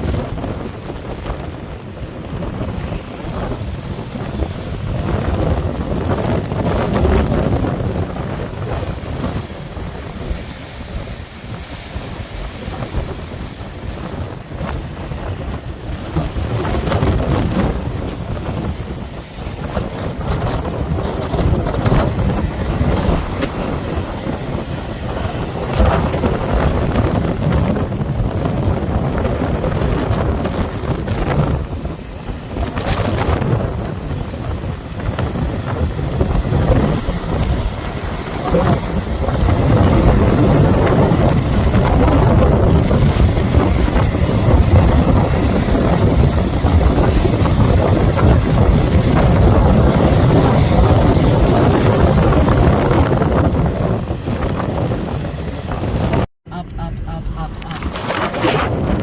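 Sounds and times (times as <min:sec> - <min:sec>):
gusty wind on microphone: 0:00.0 - 0:59.0.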